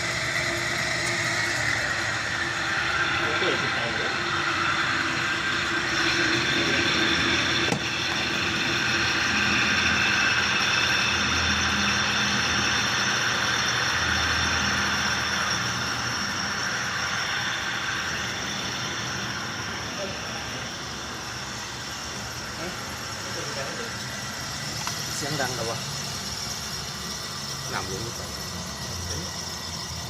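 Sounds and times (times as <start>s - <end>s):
spin-dryer motor whining: 0.0s - 30.0s.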